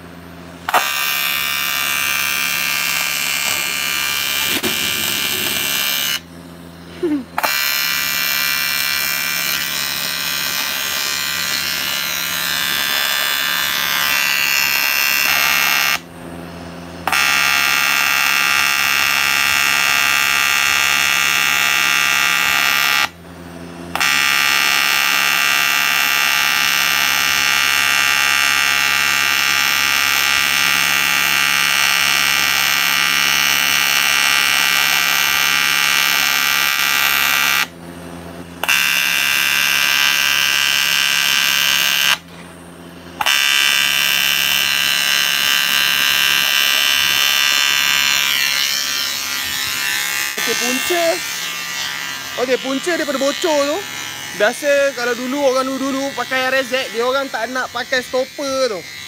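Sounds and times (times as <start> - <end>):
welding arc buzzing: 0.0 - 59.0.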